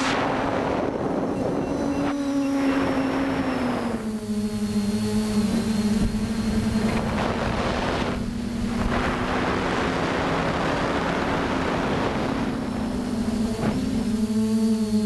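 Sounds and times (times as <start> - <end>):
wind noise on microphone: 0.0 - 14.2
quadcopter motors whirring: 0.0 - 15.0.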